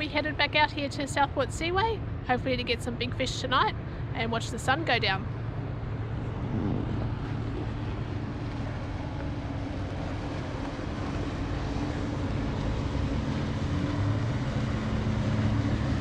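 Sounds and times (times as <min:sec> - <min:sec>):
motorboat engines droning: 0:00.0 - 0:16.0.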